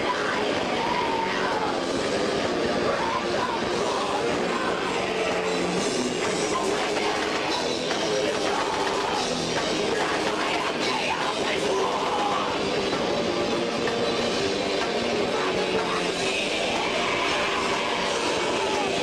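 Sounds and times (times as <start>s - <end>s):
distorted electric guitars: 0.0s - 19.0s
pounding drum kit: 0.0s - 19.0s.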